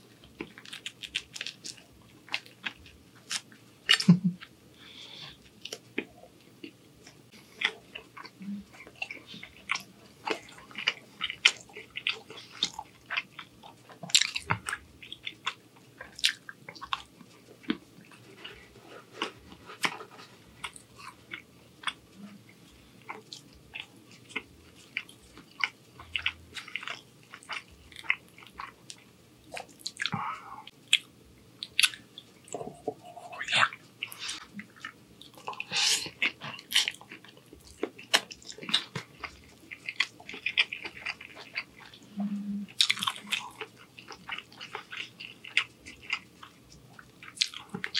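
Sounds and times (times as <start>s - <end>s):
chewing crusty bread: 0.0s - 4.6s, 5.3s - 42.1s, 42.7s - 47.9s.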